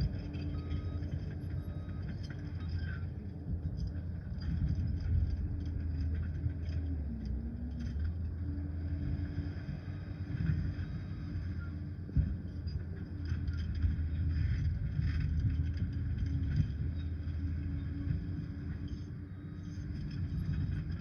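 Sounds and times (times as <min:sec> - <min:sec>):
dozer diesel engine running: 0:00.0 - 0:21.0.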